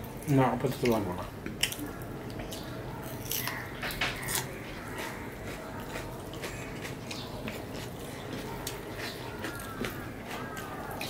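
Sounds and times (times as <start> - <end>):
wet eating clicks and smacks: 0.8 - 11.0.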